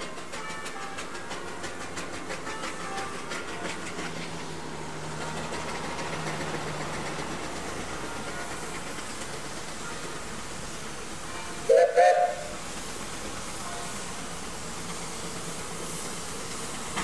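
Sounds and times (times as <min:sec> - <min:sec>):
train rumble with low hum: 0:00.0 - 0:17.0
train wheels clattering: 0:00.0 - 0:17.0.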